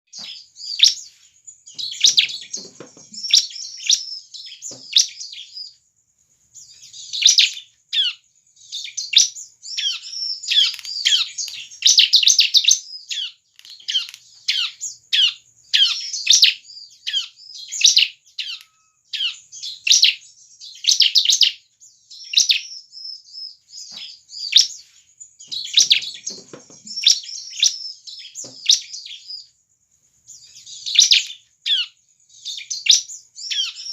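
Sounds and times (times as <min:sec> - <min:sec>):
bird chirping and trilling: 0:00.1 - 0:05.8, 0:06.6 - 0:29.6, 0:30.3 - 0:33.9.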